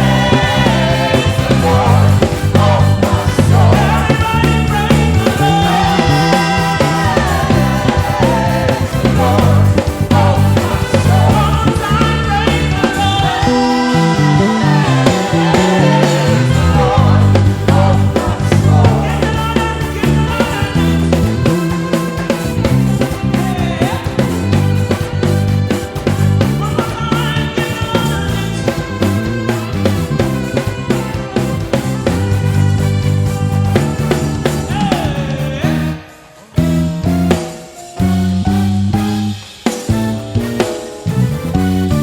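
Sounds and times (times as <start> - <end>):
gospel singing: 0.0 - 38.6
band with steady beat: 0.0 - 42.0.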